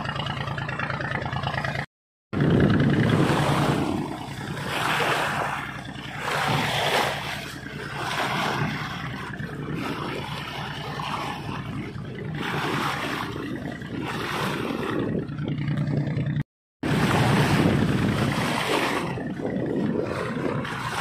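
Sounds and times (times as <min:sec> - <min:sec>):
boat engine humming: 0:00.0 - 0:21.0
rushing water: 0:02.4 - 0:21.0
wind noise: 0:02.4 - 0:21.0.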